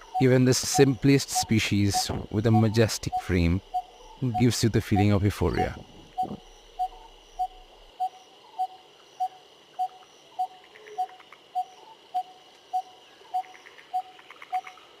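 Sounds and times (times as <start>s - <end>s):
faint high chirps: 0.0s - 14.8s
high insect-like drone: 0.0s - 15.0s.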